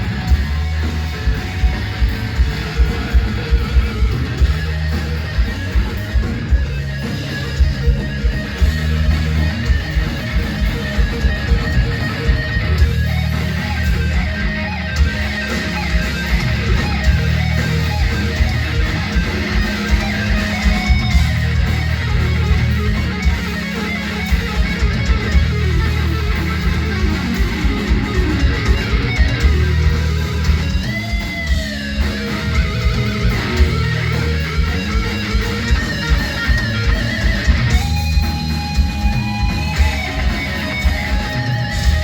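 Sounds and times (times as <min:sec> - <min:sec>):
bass and drums: 0:00.0 - 0:42.0
distorted electric guitar solo: 0:00.0 - 0:42.0.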